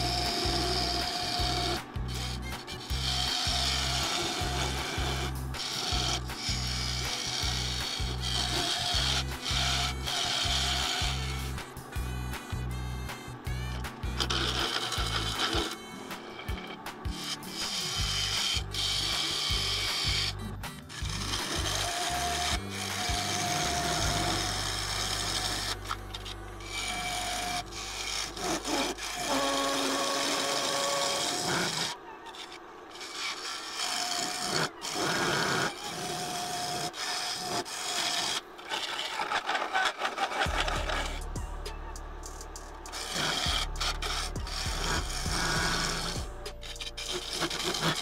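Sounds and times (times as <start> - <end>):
gouge cutting wood on a lathe: 0.0 - 41.4, 42.8 - 48.0.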